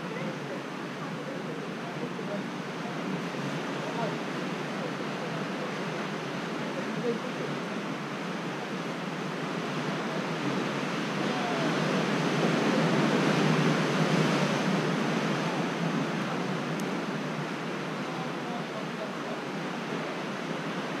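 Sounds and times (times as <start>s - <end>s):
surf washing against rocks: 0.0s - 21.0s.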